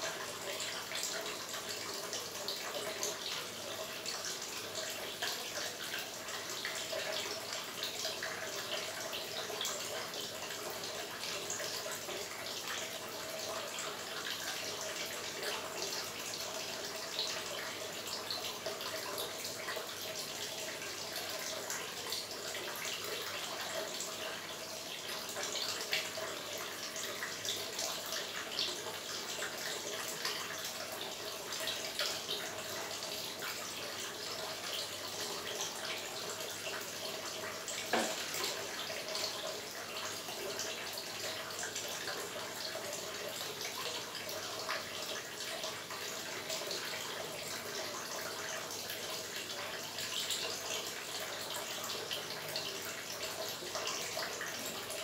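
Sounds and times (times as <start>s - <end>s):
fountain water trickling and splashing: 0.0s - 55.0s.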